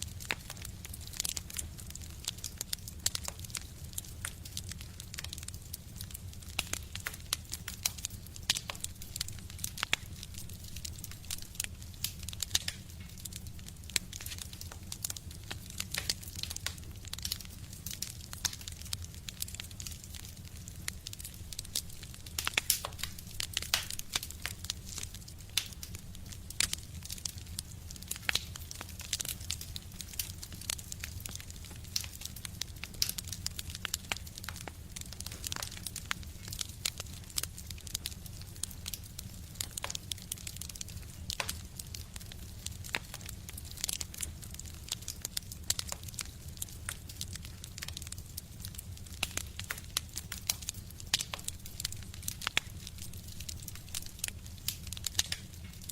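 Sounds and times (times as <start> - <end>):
fire crackling and popping: 0.0 - 55.9
low stove rumble: 0.0 - 55.9.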